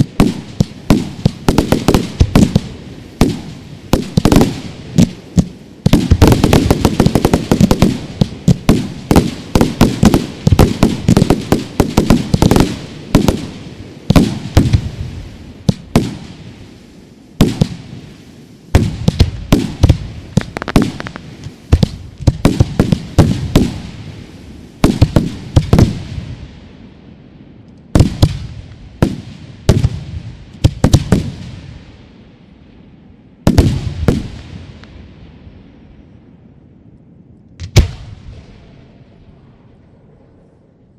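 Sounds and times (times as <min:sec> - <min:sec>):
fireworks banging: 0:00.0 - 0:26.5, 0:27.8 - 0:31.8, 0:33.4 - 0:35.4, 0:37.6 - 0:39.4.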